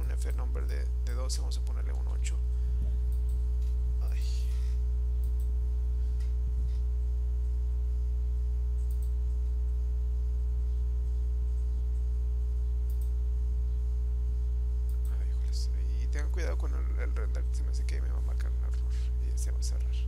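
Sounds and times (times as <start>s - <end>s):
low electrical mains hum: 0.0s - 20.0s.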